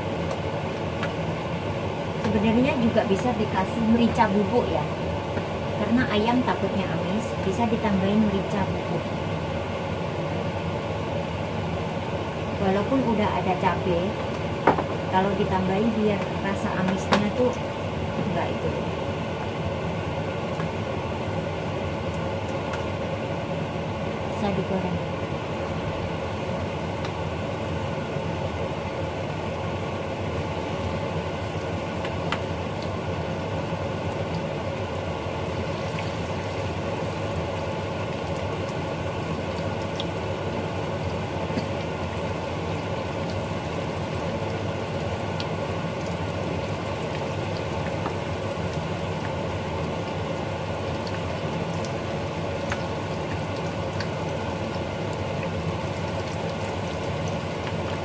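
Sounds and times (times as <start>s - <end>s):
batter frying in hot oil: 0.0s - 58.0s
steady hum: 0.0s - 58.0s.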